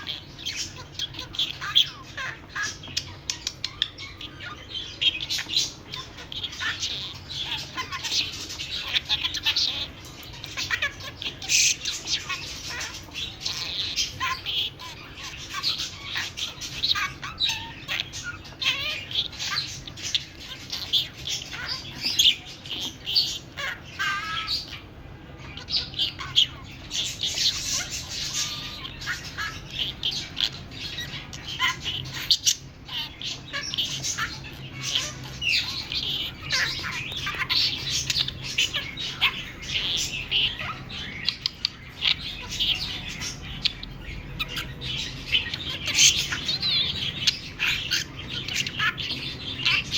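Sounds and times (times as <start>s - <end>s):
budgerigar chattering and warbling: 0.0s - 49.9s.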